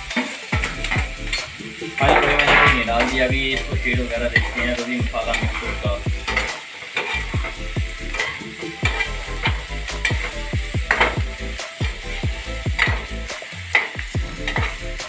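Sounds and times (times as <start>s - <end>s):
music with deep bass beat: 0.0s - 15.0s
okra frying in oil: 0.0s - 15.0s
steel spoon scraping pan: 0.0s - 15.0s.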